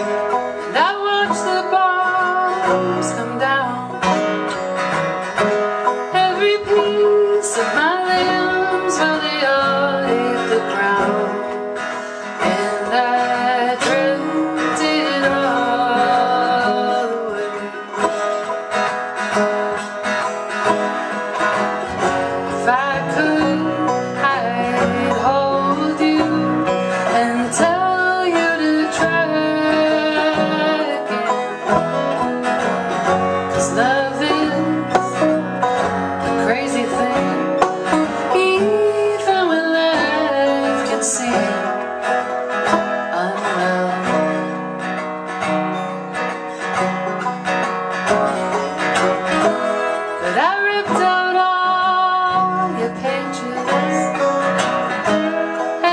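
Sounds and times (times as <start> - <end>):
person singing: 0.0 - 4.8, 5.8 - 18.6, 21.9 - 32.2, 33.2 - 45.0, 48.4 - 55.9
plucked string instruments: 0.0 - 55.9.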